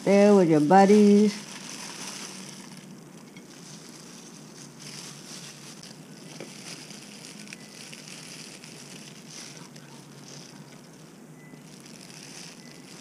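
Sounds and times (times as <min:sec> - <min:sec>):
plastic gloves rustling: 0:00.0 - 0:13.0.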